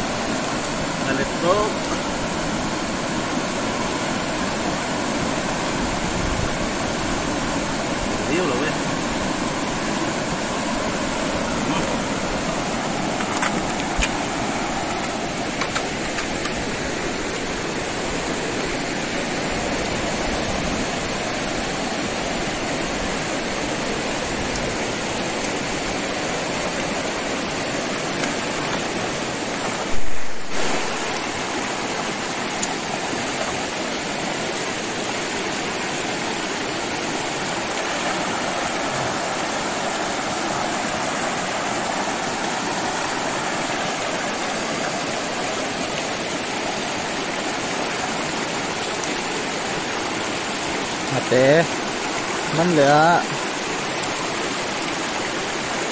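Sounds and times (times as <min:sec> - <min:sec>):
river rushing over rocks: 0:00.0 - 0:55.9.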